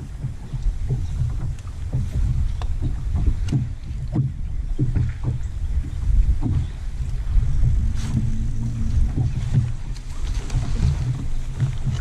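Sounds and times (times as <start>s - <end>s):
water slapping against boat hull: 0.0s - 12.0s
wind rumble on microphone: 0.0s - 12.0s.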